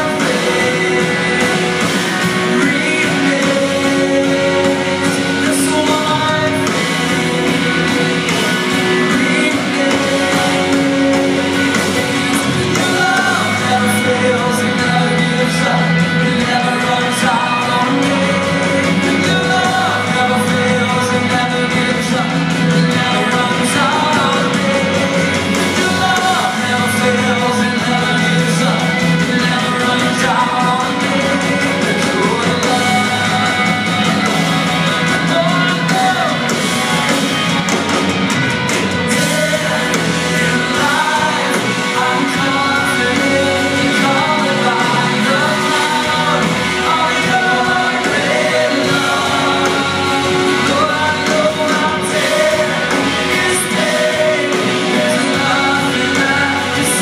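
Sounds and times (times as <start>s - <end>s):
live band playing: 0.0s - 57.0s.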